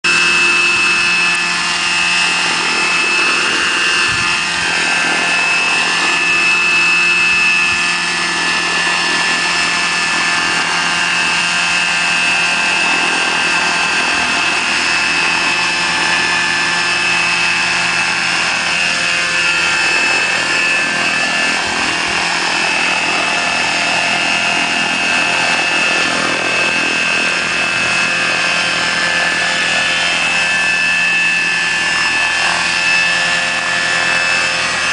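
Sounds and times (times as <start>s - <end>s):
model helicopter whine: 0.0s - 34.9s
rotor whoosh: 0.0s - 34.9s.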